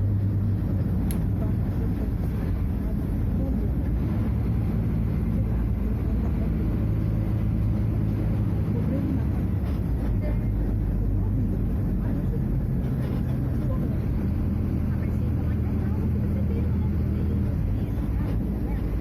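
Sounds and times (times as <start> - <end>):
diesel bus engine droning: 0.0 - 19.0.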